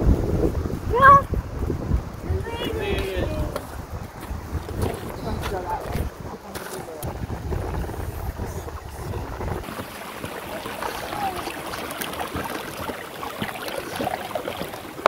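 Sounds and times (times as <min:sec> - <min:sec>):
stream running over rocks: 0:00.0 - 0:15.0
wind buffeting microphone: 0:00.0 - 0:15.0
footsteps on stream stones: 0:01.6 - 0:15.0.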